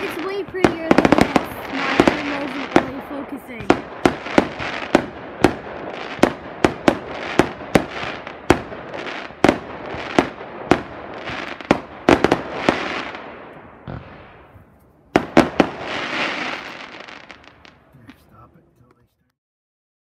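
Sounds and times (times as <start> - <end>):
fireworks crackling hiss: 0.0 - 14.1, 15.2 - 19.0
firework bangs: 0.0 - 19.0.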